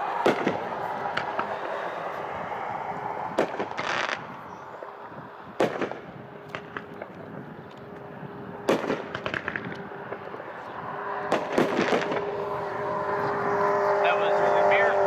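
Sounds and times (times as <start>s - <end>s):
fireworks crackling: 0.0s - 14.0s
fireworks reports: 0.0s - 15.0s
steady hum: 0.0s - 15.0s.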